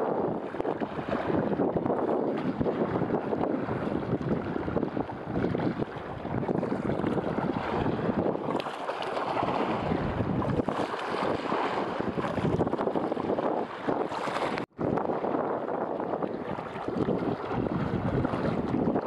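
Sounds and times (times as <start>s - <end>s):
sea water lapping: 0.0s - 19.0s
wind buffeting microphone: 0.0s - 19.0s.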